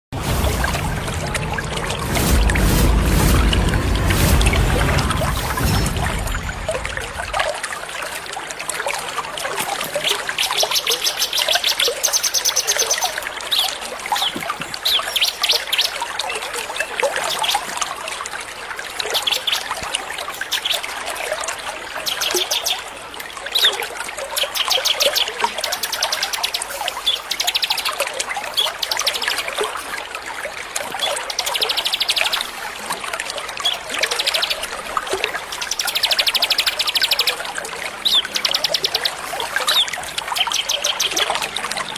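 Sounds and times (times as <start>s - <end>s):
trickle of water: 0.2s - 41.9s.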